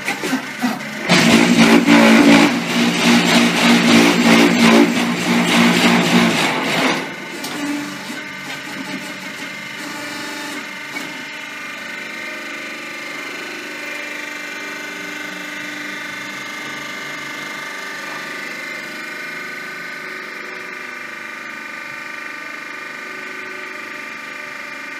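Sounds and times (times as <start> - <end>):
hydraulic pump motor whine: 0.0 - 24.9.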